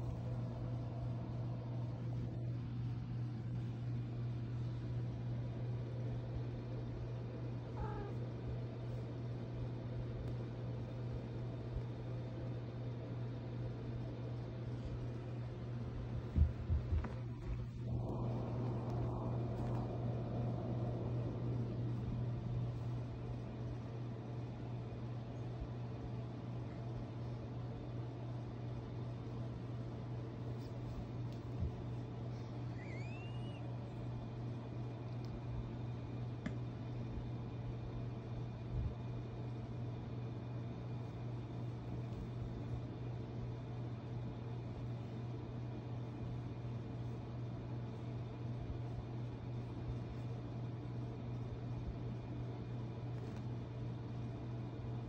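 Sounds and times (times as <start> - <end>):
steady low hum with hiss: 0.0 - 55.0.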